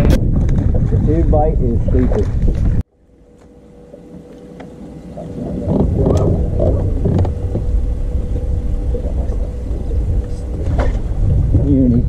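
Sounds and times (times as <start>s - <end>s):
wind buffeting microphone: 0.0s - 2.9s, 3.7s - 12.0s
faint steady hum: 1.1s - 12.0s.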